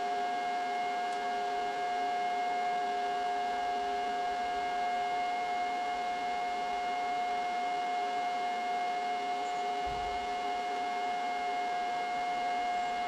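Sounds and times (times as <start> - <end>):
machine whine over drone: 0.0 - 13.0.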